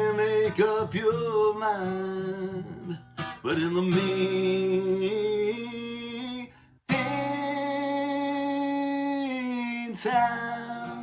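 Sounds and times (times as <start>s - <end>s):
guitar: 0.0s - 11.0s.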